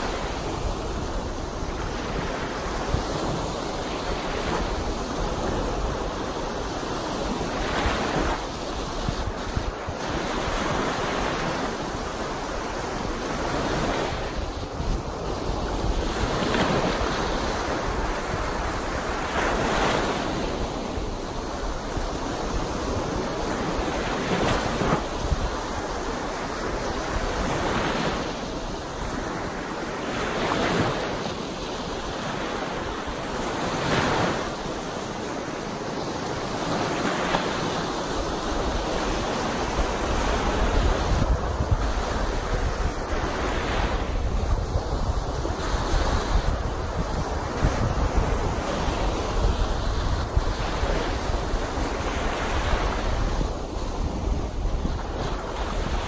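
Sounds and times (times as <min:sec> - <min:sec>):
waves breaking on shore: 0:00.0 - 0:56.0
wind rumbling on microphone: 0:00.0 - 0:56.0.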